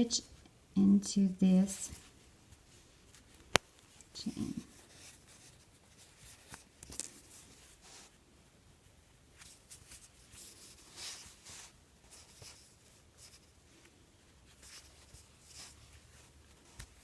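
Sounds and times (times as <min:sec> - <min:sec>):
yarn and crochet hook rustling: 0:00.0 - 0:08.2, 0:09.3 - 0:17.0.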